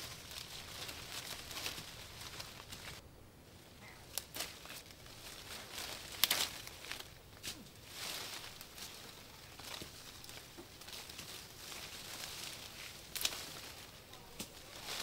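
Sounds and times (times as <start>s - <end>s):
branches snapping: 0.0s - 3.0s, 4.1s - 15.0s
leafy branches rustling: 0.0s - 15.0s.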